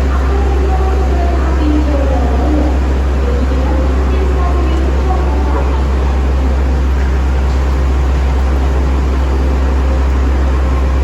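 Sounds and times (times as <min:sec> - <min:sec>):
train engine rumble: 0:00.0 - 0:11.0.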